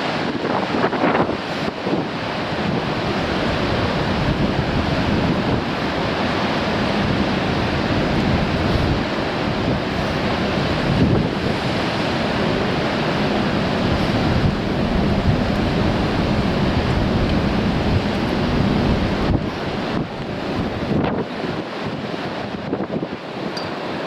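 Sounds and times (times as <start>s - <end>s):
sea surf breaking on rocks: 0.0s - 24.0s
wind buffeting microphone: 0.0s - 24.0s.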